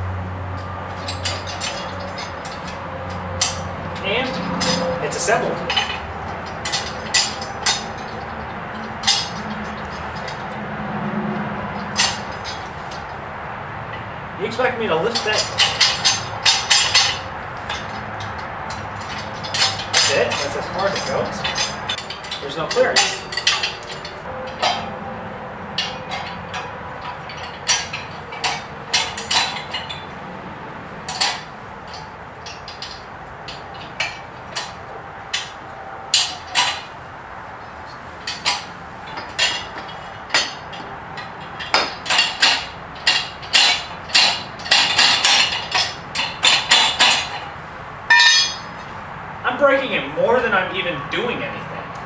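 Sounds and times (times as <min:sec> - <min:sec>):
metal parts clinking and knocking: 0:00.6 - 0:10.6, 0:11.8 - 0:13.1, 0:15.1 - 0:25.0, 0:25.8 - 0:30.2, 0:31.0 - 0:36.9, 0:37.8 - 0:48.9.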